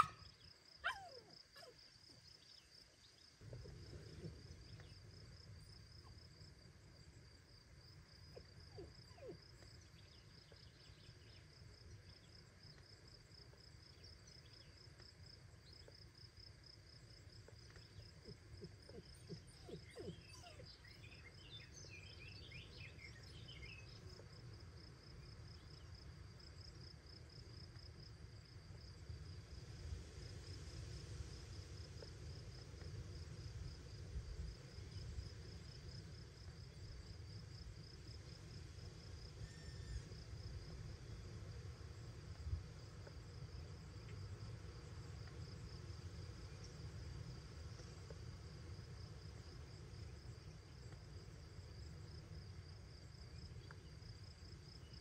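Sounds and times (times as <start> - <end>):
insect chirping: 0.0 - 28.9, 33.9 - 55.0.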